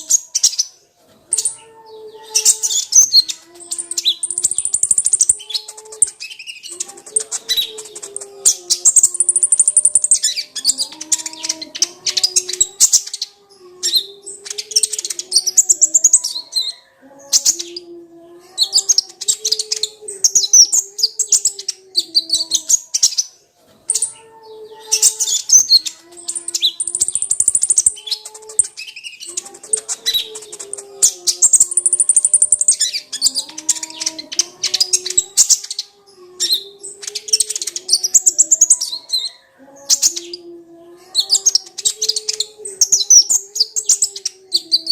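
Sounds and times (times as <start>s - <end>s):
bird chirping trills: 0.0s - 44.9s.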